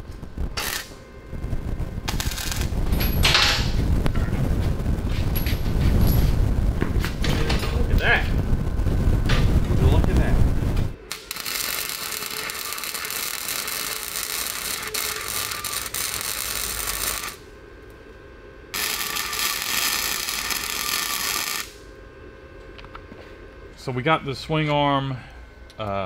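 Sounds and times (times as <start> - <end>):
welder arc crackling and hissing: 0.0 - 26.0.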